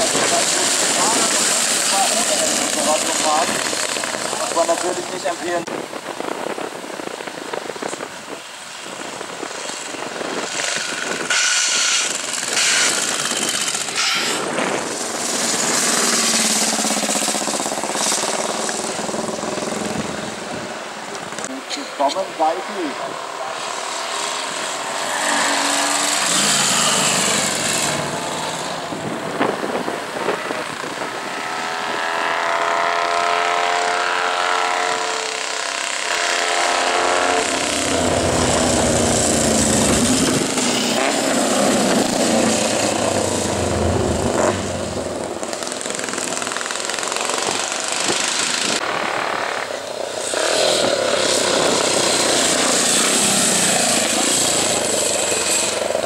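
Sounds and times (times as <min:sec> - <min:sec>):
racing motorcycles passing at speed: 0:00.0 - 0:56.0.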